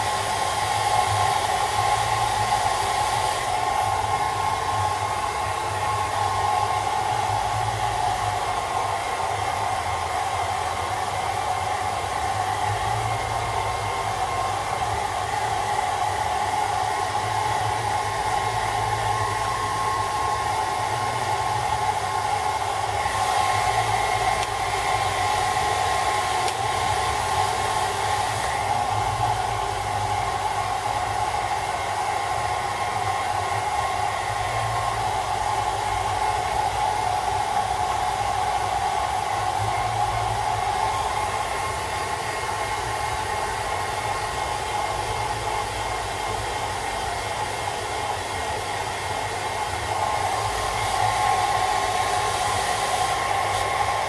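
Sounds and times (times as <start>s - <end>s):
hairdryer blowing: 0.0s - 54.0s.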